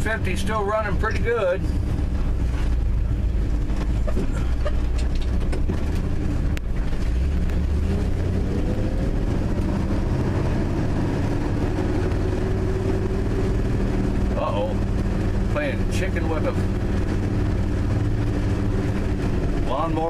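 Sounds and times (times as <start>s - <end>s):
pickup truck engine running: 0.0s - 20.0s
tyre and road noise: 0.0s - 20.0s.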